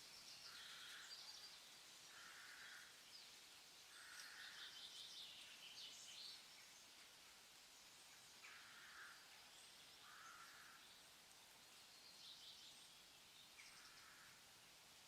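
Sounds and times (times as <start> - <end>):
soft bird calls: 0.0 - 7.2, 7.8 - 14.5
steady soft hiss: 0.0 - 15.0.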